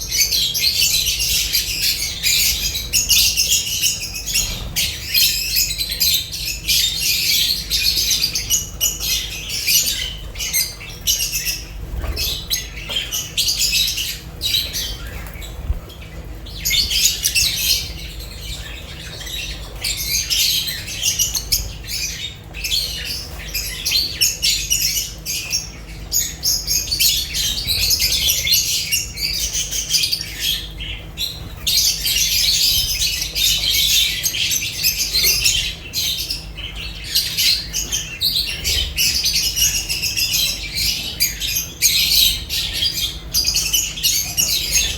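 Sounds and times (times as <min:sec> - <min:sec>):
lovebirds chattering and squawking: 0:00.0 - 0:44.9.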